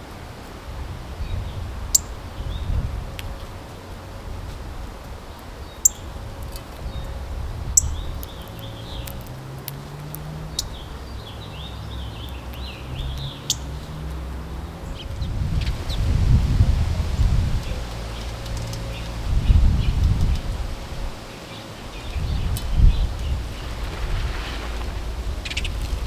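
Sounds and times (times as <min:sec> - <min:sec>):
low outdoor rumble: 0:00.0 - 0:26.0
songbirds chirping: 0:00.0 - 0:26.0.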